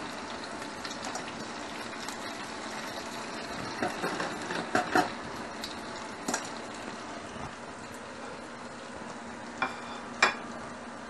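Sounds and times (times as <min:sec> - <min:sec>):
frying oil sizzling: 0:00.0 - 0:11.0.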